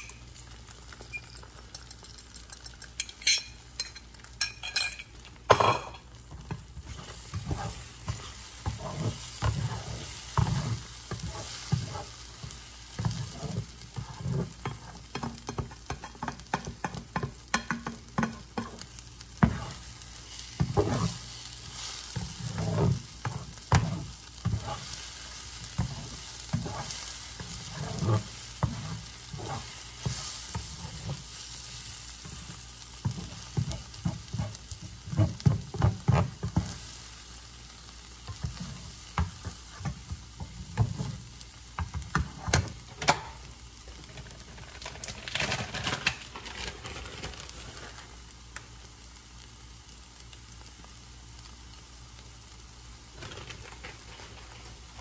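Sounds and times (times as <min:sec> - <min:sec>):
spatula scraping frying pan: 0:00.0 - 0:37.2, 0:38.0 - 0:48.2, 0:53.1 - 0:55.0
eggs sizzling: 0:00.0 - 0:55.0.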